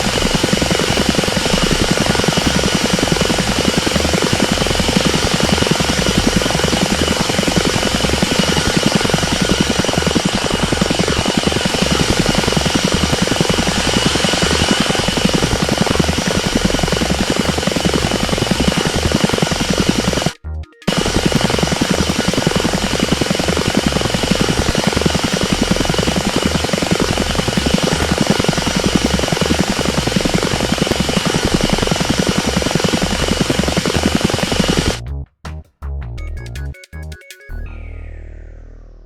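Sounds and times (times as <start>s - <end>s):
helicopter rotor chop: 0.0s - 35.0s
turbine whine: 0.0s - 35.0s.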